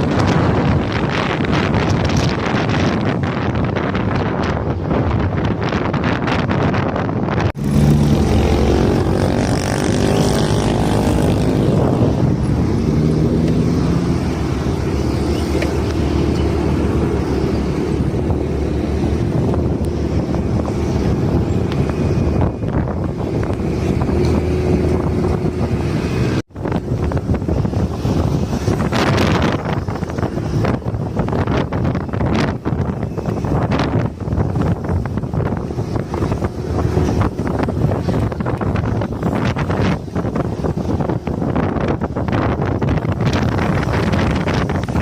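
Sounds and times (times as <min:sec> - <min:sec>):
road and wind noise: 0:00.0 - 0:45.0.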